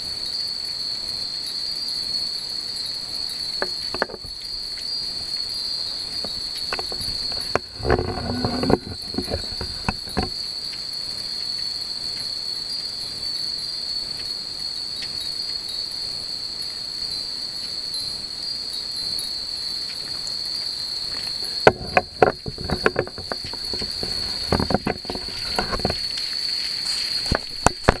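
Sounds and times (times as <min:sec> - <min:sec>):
night insects droning: 0:00.0 - 0:28.0.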